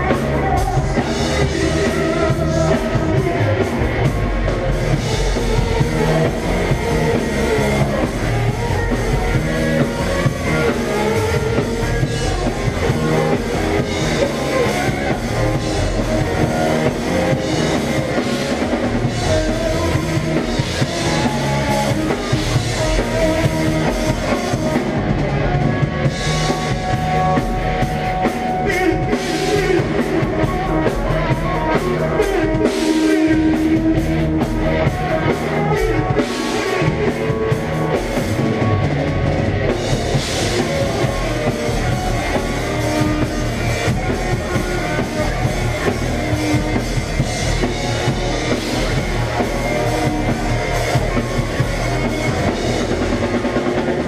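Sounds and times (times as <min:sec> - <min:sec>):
drum kit beat: 0:00.0 - 0:54.0
electric guitar: 0:00.0 - 0:54.0.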